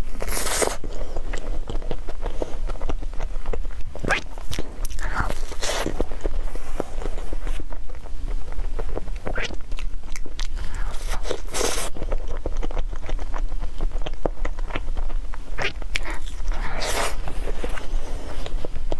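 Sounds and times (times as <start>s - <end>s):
chewing and mouth sounds: 0.0s - 18.9s.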